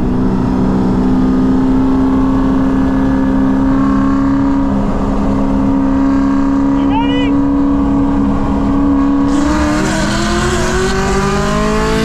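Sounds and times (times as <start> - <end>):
car engine droning from cabin: 0.0 - 12.0
low road rumble: 0.0 - 12.0.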